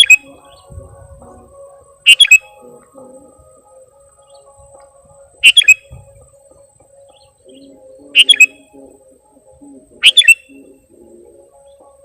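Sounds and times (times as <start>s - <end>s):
bird calling: 0.0s - 12.0s
faint steady hum: 0.0s - 12.0s.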